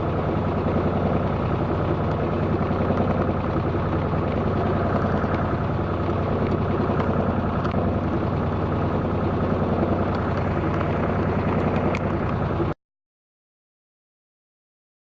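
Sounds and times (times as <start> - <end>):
boat engine throbbing: 0.0 - 12.8.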